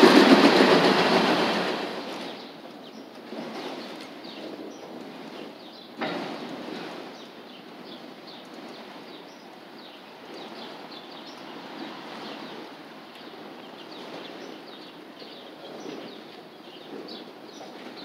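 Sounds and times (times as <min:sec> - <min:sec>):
train wheels rumbling and clattering: 0:00.0 - 0:18.0.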